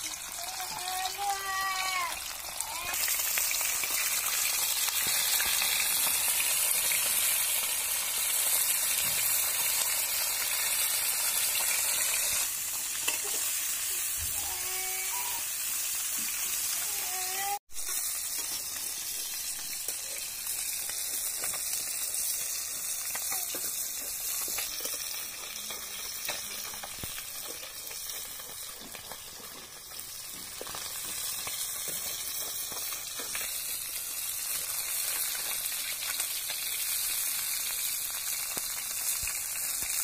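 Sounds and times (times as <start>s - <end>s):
fish frying in hot oil: 0.0s - 40.0s.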